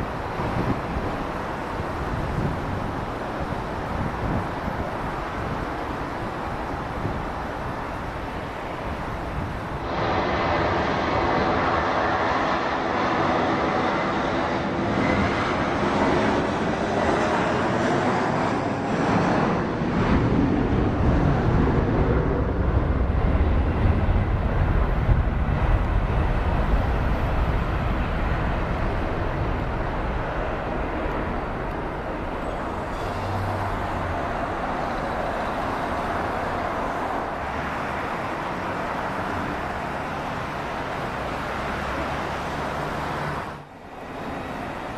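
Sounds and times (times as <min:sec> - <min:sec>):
jet airliner engines passing: 0:00.0 - 0:44.9.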